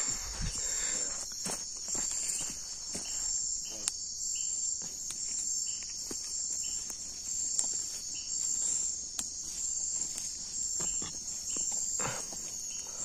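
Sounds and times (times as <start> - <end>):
night insects trilling: 0.0 - 13.0
short insect chirps: 0.0 - 13.0.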